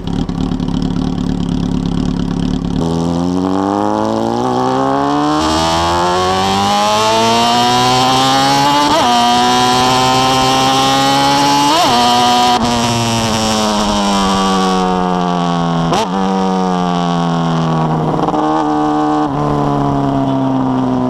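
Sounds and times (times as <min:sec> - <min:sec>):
motorcycle accelerating: 0:00.0 - 0:21.0.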